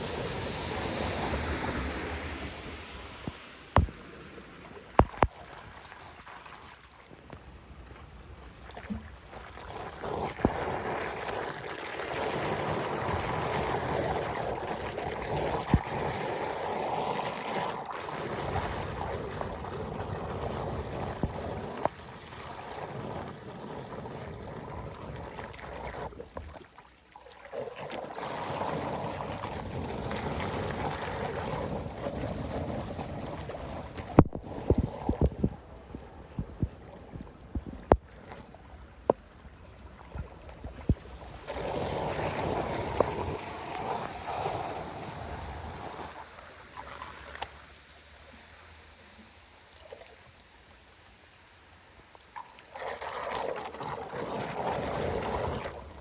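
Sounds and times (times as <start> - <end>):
floodwater rushing through drain: 0.0 - 56.0.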